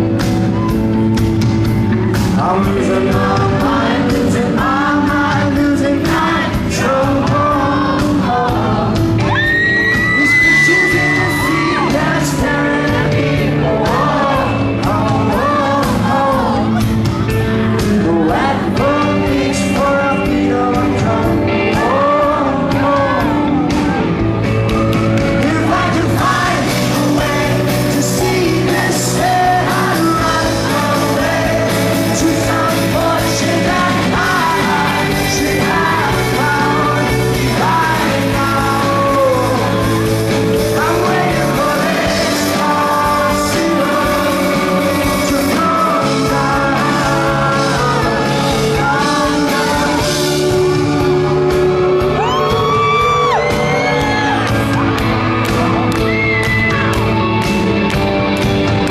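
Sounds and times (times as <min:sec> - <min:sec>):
live rock band playing: 0:00.0 - 0:58.9
man singing: 0:02.2 - 0:24.2, 0:25.2 - 0:54.8.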